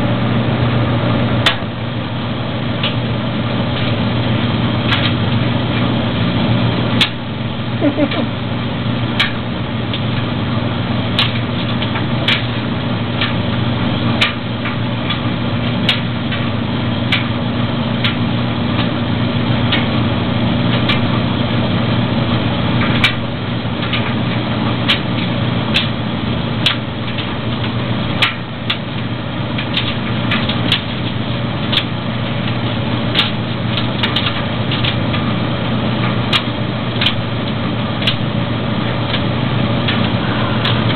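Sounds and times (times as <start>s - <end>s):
dryer motor and drum hum: 0.0s - 40.9s.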